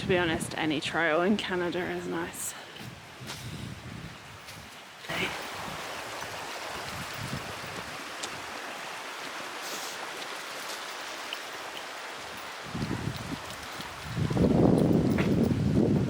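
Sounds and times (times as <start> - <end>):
creek water flowing: 0.8 - 16.0.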